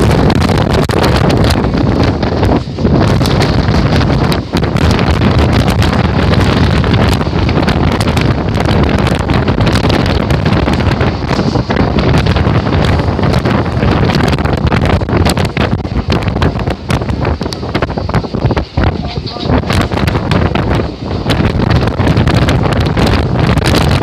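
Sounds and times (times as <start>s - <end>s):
train running rumble: 0.0s - 24.0s
wind buffeting microphone: 0.0s - 24.0s.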